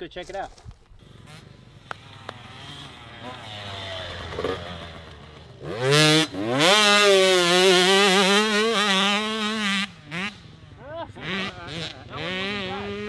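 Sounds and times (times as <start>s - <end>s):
dirt bike engine revving: 0.9s - 13.0s.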